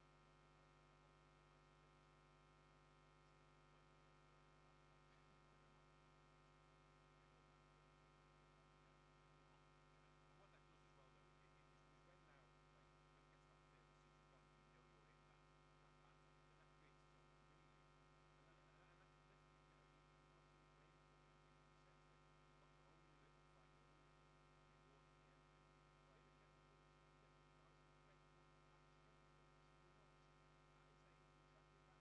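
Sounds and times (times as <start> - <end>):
faint electrical hum: 0.0 - 32.0.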